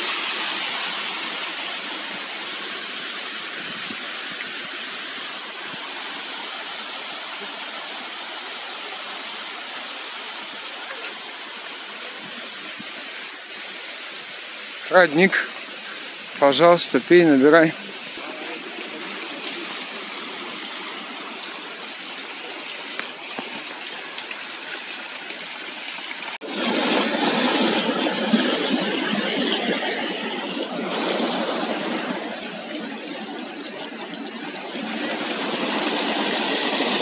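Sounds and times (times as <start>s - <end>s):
stream water rushing over rocks: 0.0s - 37.0s.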